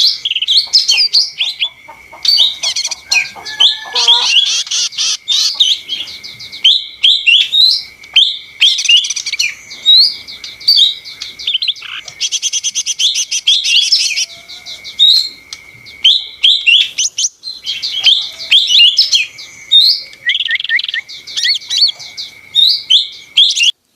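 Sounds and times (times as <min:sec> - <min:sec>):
bird singing chattering song: 0:00.0 - 0:23.9.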